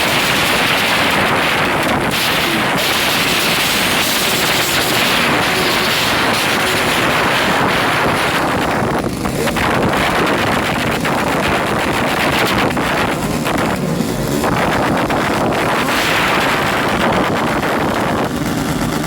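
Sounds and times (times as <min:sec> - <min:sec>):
motorcycle engines revving high: 0:00.0 - 0:19.0
wind buffeting microphone: 0:00.0 - 0:19.0.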